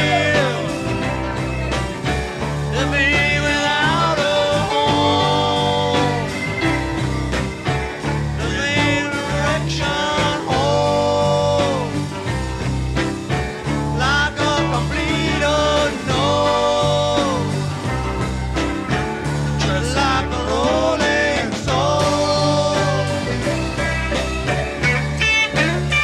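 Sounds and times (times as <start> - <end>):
song with singing voice: 0.0 - 26.0.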